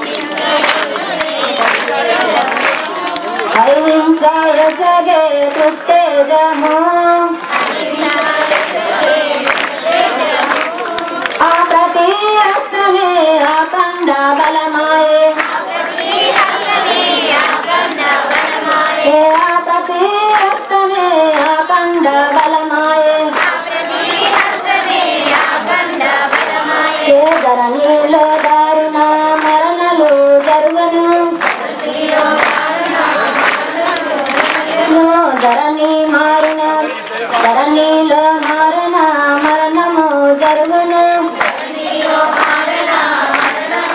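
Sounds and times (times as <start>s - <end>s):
woman singing into microphone: 0.0s - 23.8s, 24.4s - 43.9s
rhythmic hand clapping: 0.0s - 43.9s
women singing: 0.0s - 43.9s.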